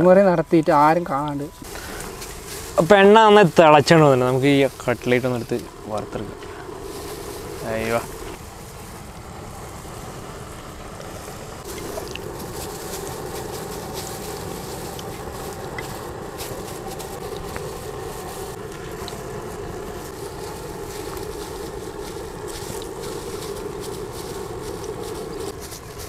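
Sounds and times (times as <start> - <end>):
hot oil sizzling: 0.9 - 26.0
small crackles and pops: 1.2 - 26.0
wind rumble on microphone: 1.2 - 26.0.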